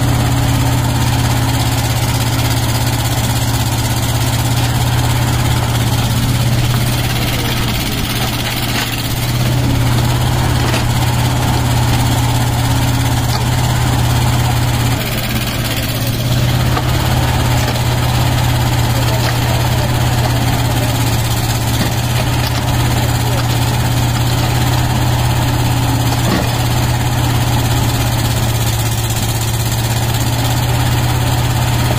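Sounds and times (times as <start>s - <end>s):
excavator diesel engine running: 0.0s - 31.9s
excavator digging soil: 0.0s - 31.9s.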